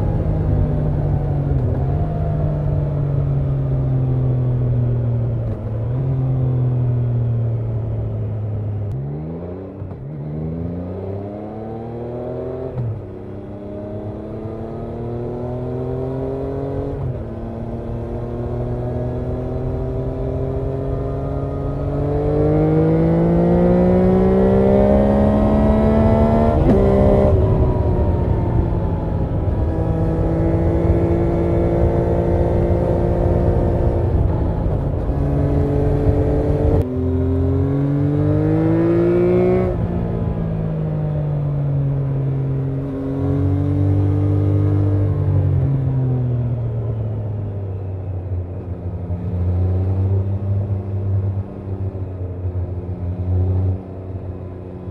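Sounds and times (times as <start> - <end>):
motorcycle engine revving through gears: 0.0 - 54.9.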